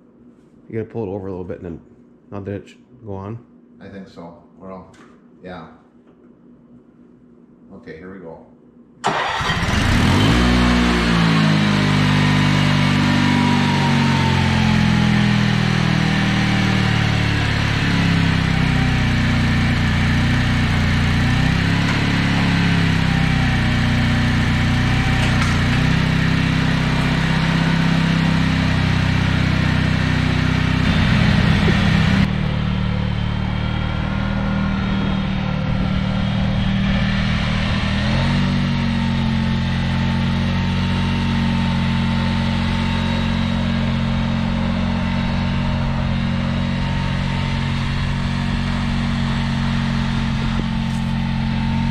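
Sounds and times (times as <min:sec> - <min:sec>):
riding lawn mower engine running: 0:09.1 - 0:51.9.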